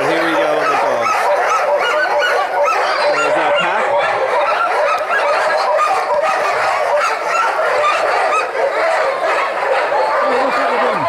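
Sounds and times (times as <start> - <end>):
sled dogs barking and howling: 0.0 - 11.0.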